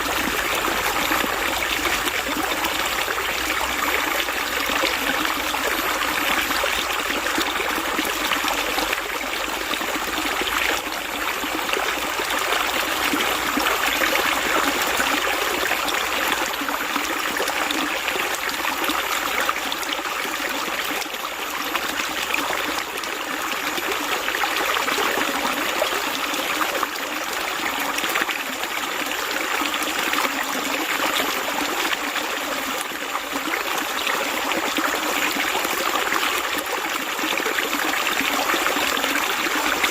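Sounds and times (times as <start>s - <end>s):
stream trickling and bubbling: 0.0s - 39.9s.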